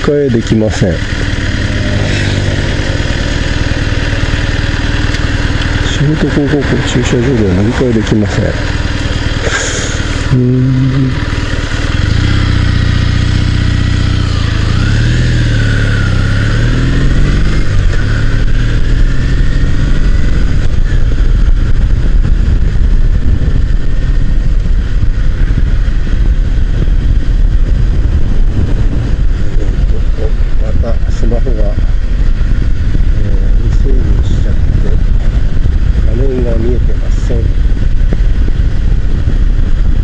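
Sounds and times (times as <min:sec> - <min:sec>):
motorcycle engine accelerating: 0:00.0 - 0:40.0
wind rush: 0:00.0 - 0:40.0.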